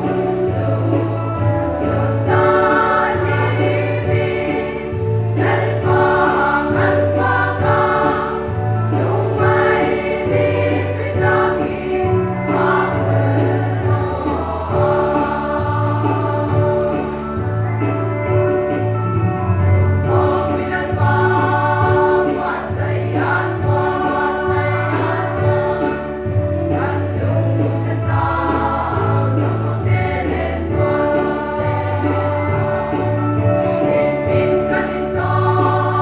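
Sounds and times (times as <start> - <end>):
women's choir singing a hymn: 0.0 - 36.0.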